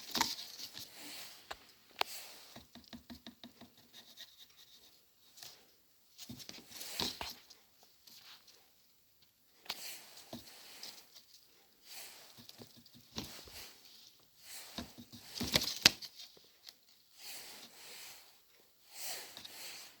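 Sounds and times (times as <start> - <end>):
cat rustling and scratching fabric: 0.0 - 20.0.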